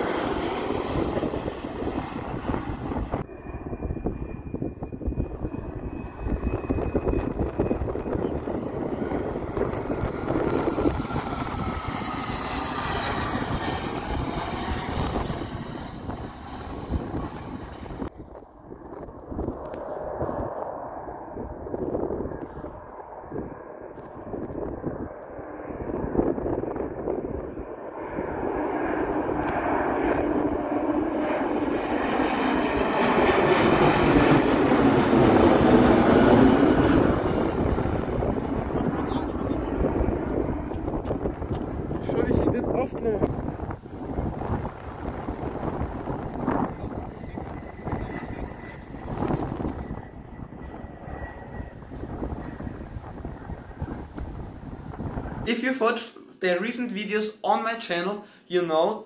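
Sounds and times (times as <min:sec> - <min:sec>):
wind buffeting microphone: 0:00.0 - 0:55.5
jet engines passing overhead: 0:00.0 - 0:59.0.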